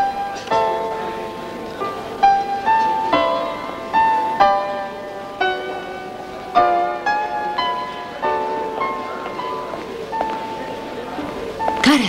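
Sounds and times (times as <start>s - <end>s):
slow piano melody: 0.0s - 11.9s.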